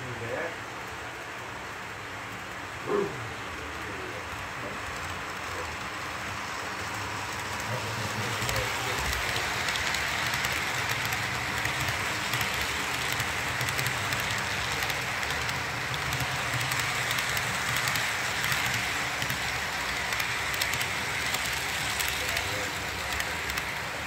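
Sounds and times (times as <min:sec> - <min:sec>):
model train wheels rumbling on rail: 0:00.0 - 0:24.0.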